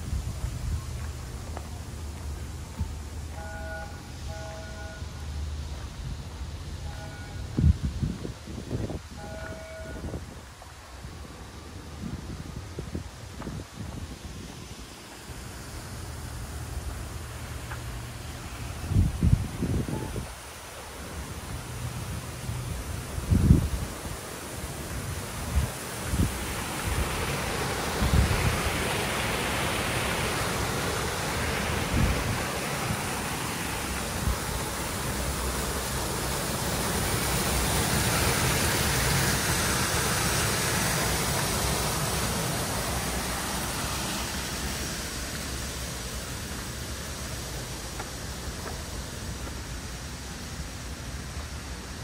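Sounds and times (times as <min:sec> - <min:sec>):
steady rushing noise: 0:10.0 - 0:52.0.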